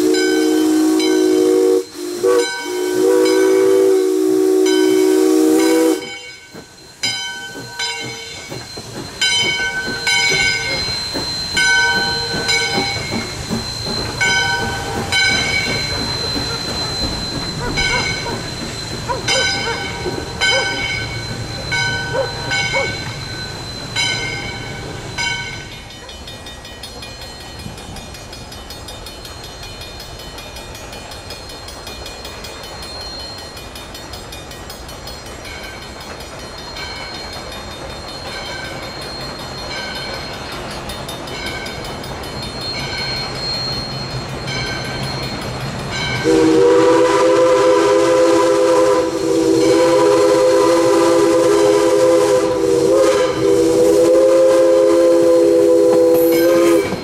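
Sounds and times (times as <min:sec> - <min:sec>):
locomotive bell ringing: 0:00.0 - 0:57.0
steam hiss: 0:00.0 - 0:57.0
train engine rumble: 0:00.0 - 0:57.0.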